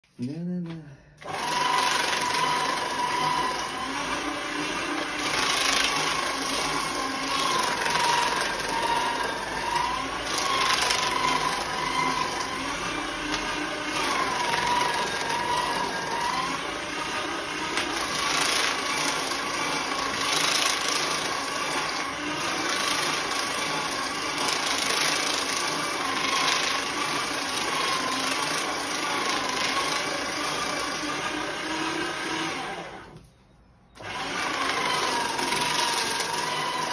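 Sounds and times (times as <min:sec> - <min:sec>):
paper shredder motor whine: 0:01.2 - 0:33.3, 0:34.0 - 0:36.9
paper being cut: 0:01.5 - 0:31.2.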